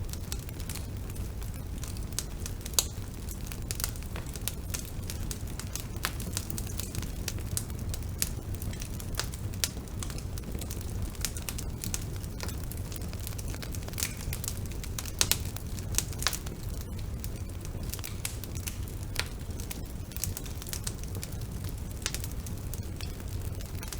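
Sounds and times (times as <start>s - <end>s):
burning wood crackling: 0.0s - 23.9s
fire popping loudly: 0.0s - 23.9s
low rumble of flames: 0.0s - 23.9s.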